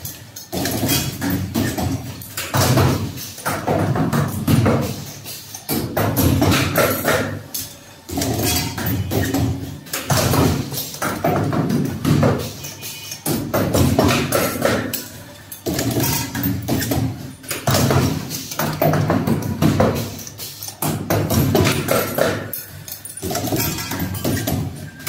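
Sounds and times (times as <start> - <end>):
pneumatic machine clacking: 0.0 - 25.0.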